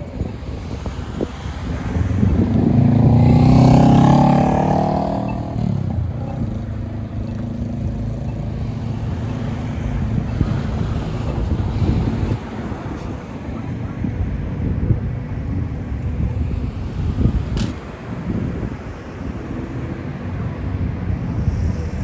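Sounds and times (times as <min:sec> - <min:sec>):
bus driving past: 0:00.0 - 0:22.0
low traffic rumble: 0:00.0 - 0:22.0.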